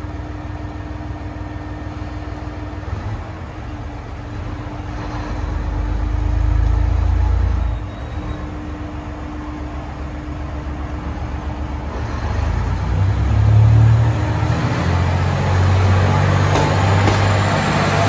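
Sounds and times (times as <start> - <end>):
diesel railcar engine humming: 0.0 - 18.0.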